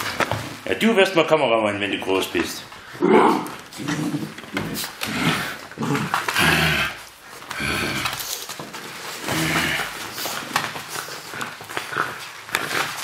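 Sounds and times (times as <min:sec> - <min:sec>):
puppies scuffling: 0:00.0 - 0:13.0.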